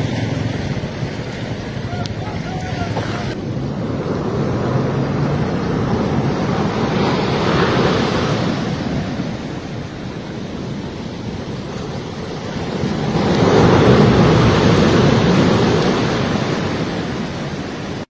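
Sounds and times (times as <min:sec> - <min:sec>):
big wave crashing: 0:00.0 - 0:18.0
heavy waves breaking on beach: 0:00.0 - 0:18.0.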